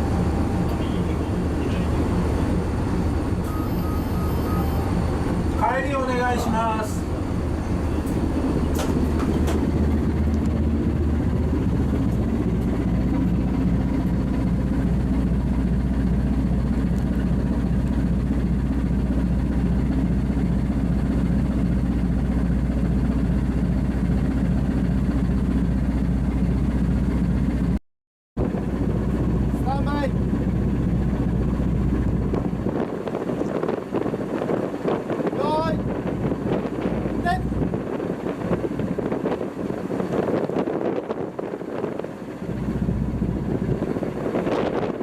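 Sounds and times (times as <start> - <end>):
ship diesel engine droning: 0.0 - 27.8, 28.4 - 45.0.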